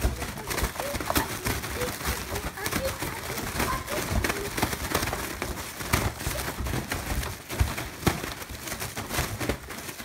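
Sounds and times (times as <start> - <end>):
balloons bumping: 0.0 - 10.0
foil balloons crinkling: 0.0 - 10.0.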